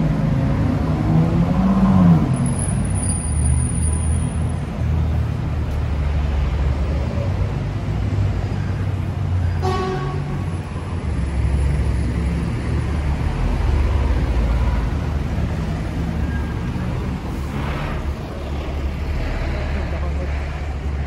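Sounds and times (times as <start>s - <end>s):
bus pulling past: 0.0s - 21.0s
traffic engines rumbling: 0.0s - 21.0s.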